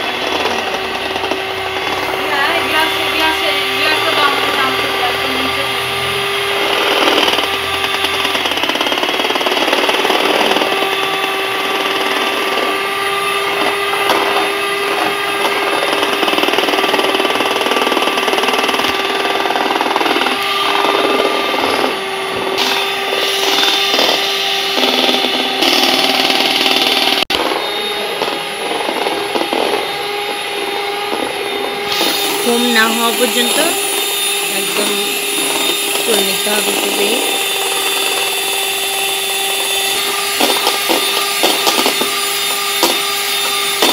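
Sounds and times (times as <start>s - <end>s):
electric hand mixer whining: 0.0s - 43.9s.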